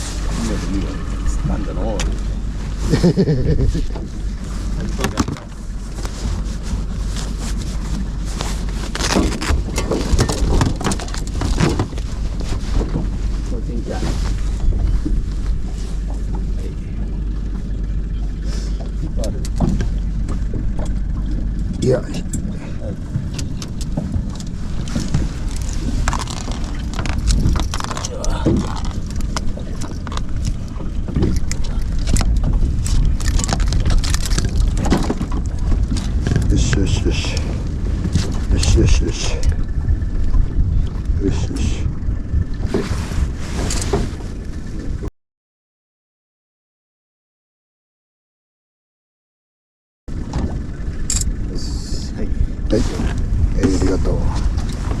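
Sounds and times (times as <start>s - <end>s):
wind rumble: 0.0s - 45.1s, 50.1s - 55.0s.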